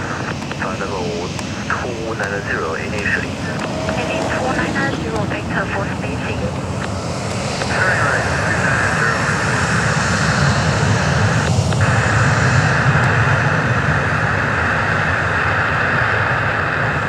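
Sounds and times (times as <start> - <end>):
jet engines at high power: 0.0 - 17.0.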